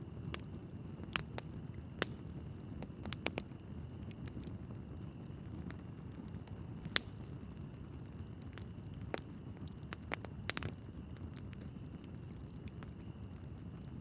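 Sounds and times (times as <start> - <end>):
flames rumbling: 0.0 - 14.0
wood crackling and popping: 0.0 - 14.0.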